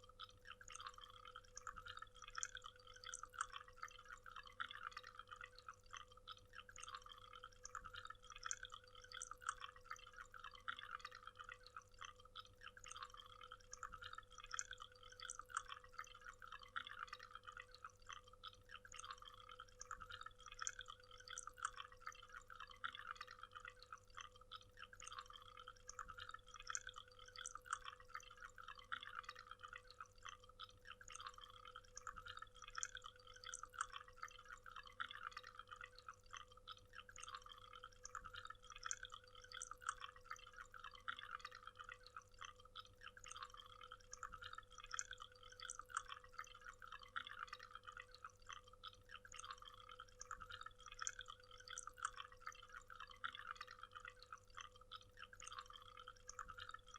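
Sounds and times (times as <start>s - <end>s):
faint steady hum: 0.0s - 56.9s.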